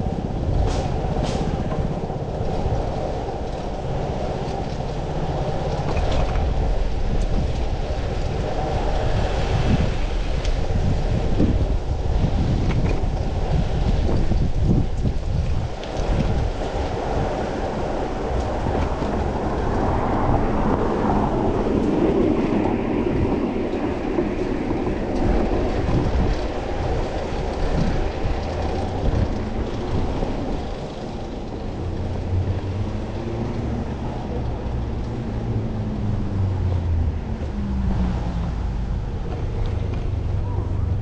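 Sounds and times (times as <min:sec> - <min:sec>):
city traffic rumbling: 0:00.0 - 0:41.0
vehicle engine hum: 0:00.0 - 0:41.0
wind rushing over microphone: 0:00.0 - 0:41.0.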